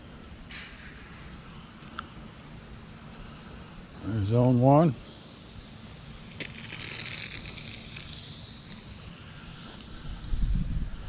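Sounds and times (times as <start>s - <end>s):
sprinkler spray hissing: 1.3s - 11.0s.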